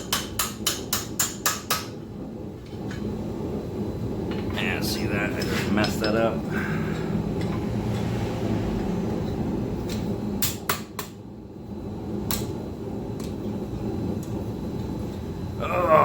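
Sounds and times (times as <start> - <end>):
forge burner roaring: 0.0 - 16.0.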